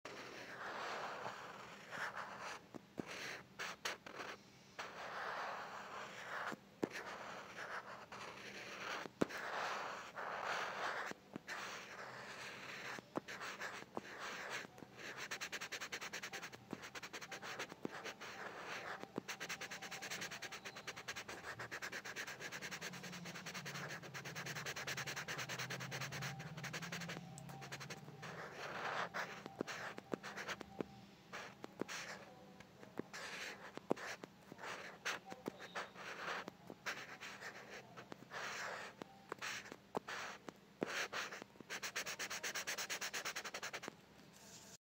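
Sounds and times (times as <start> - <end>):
pencil scribbling rapidly: 0.1 - 30.7, 33.0 - 43.9
pencil scratching on paper: 0.1 - 43.9.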